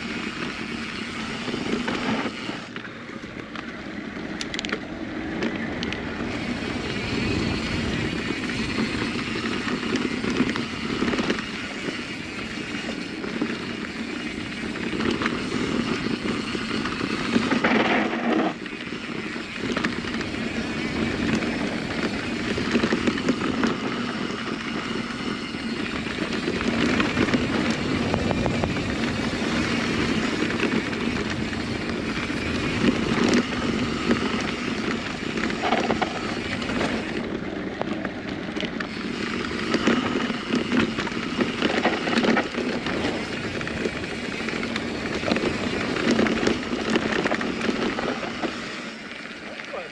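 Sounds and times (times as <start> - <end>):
bike clicks and rattles: 0.0 - 49.9
bike tyres rolling on dirt: 0.0 - 49.9.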